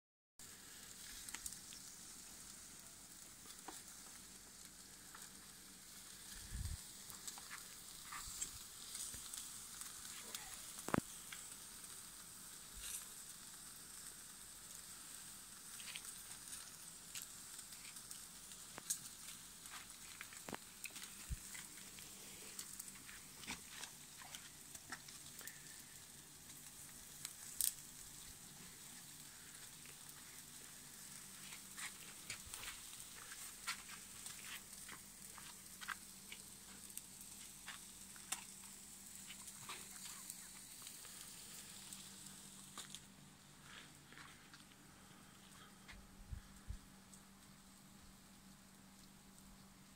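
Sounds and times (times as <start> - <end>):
embers popping and crackling: 0.4 - 49.9
meat sizzling on a grill: 0.4 - 49.9.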